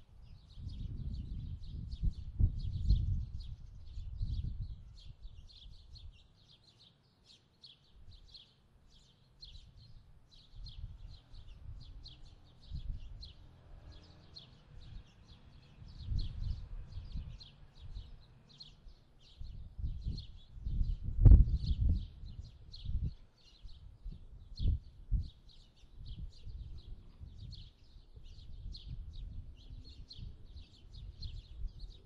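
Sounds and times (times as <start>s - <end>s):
small bird chirping: 0.0s - 32.0s.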